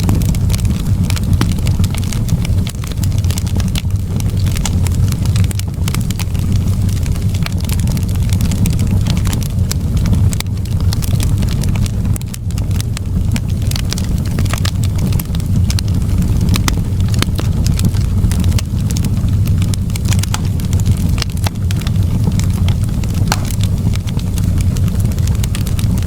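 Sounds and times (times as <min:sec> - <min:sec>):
fireplace fire crackling and popping: 0:00.0 - 0:26.0.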